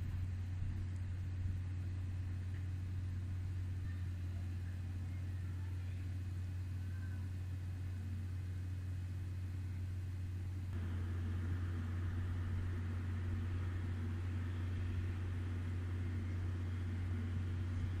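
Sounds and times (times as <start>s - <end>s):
electric train equipment humming: 0.0s - 18.0s
faint steady tone: 0.0s - 18.0s.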